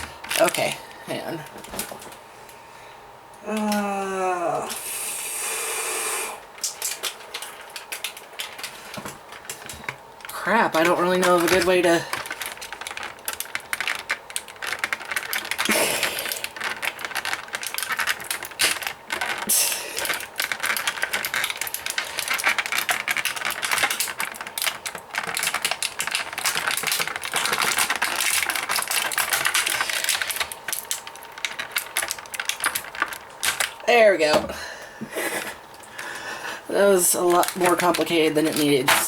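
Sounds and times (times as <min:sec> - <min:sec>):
plastic packaging crackling: 0:00.0 - 0:02.3, 0:06.5 - 0:34.6, 0:35.2 - 0:39.0.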